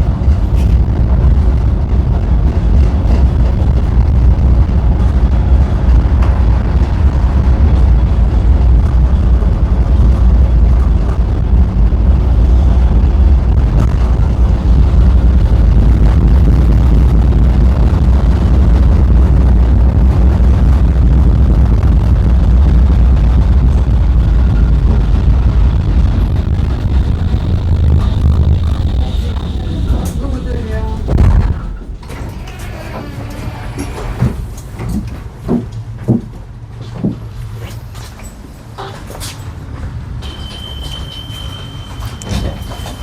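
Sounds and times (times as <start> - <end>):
tram wheels rumbling on rails: 0.0 - 43.0.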